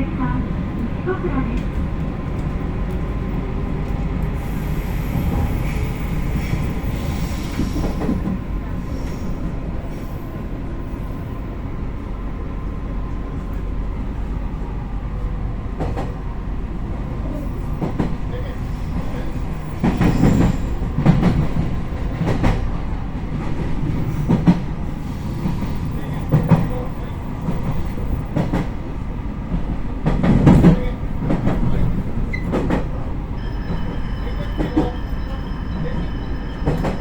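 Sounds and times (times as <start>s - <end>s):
electric train rumbling: 0.0s - 37.0s.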